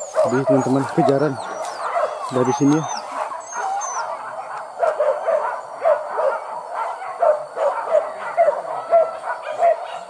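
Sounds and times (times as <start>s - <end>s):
dogs yelping and barking: 0.0s - 10.0s.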